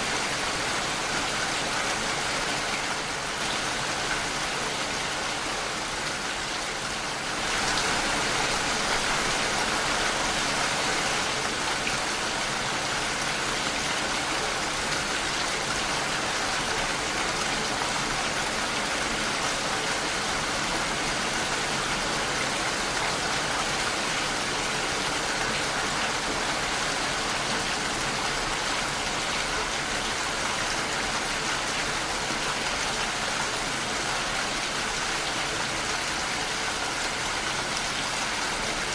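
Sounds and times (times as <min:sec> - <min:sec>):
rain against a window: 0:00.0 - 0:38.9.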